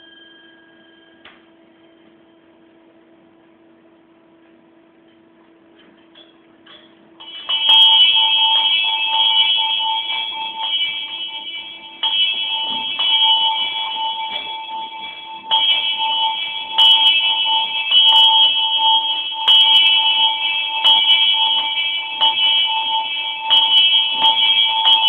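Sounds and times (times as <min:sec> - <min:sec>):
small bell ringing: 0:00.0 - 0:01.4, 0:06.2 - 0:25.0.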